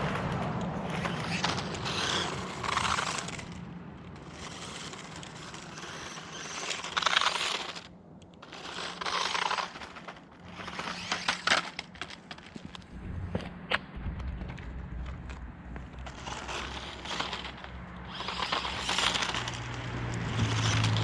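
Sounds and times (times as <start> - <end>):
toy truck rattling over rough ground: 0.0 - 13.4, 14.2 - 21.0.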